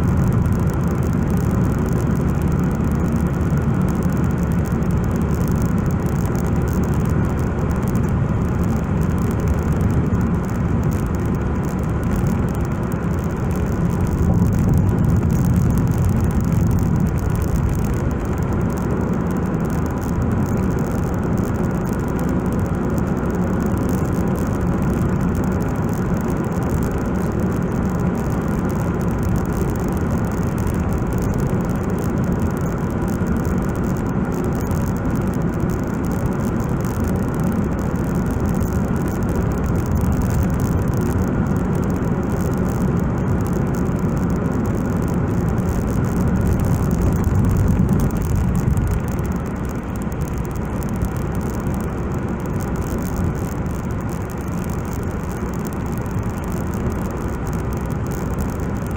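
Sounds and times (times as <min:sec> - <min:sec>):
car cabin road and engine noise: 0:00.0 - 0:58.9.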